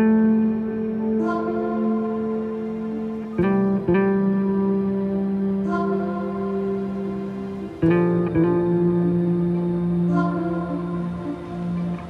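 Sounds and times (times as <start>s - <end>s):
background music held notes: 0.0s - 12.0s.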